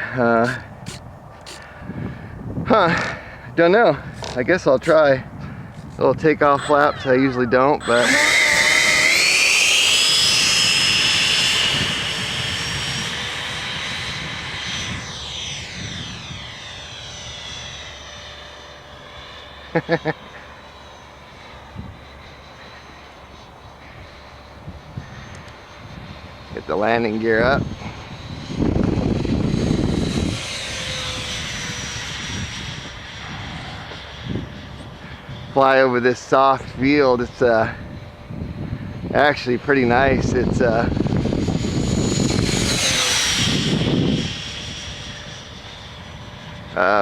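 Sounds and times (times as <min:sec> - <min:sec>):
model jet high whine: 0:00.0 - 0:47.0.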